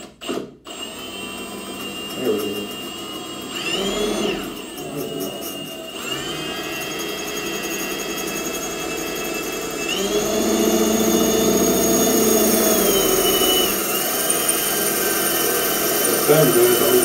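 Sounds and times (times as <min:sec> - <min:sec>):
power drill motor whine: 0:00.1 - 0:17.0
drill bit grinding against tile: 0:00.3 - 0:17.0.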